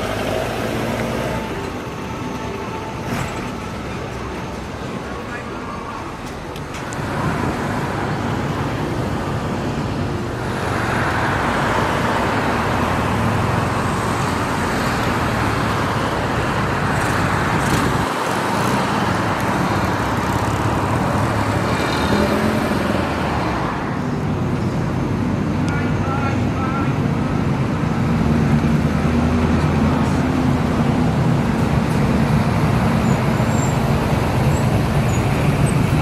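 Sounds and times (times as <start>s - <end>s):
car engines and exhausts: 0.0s - 36.0s.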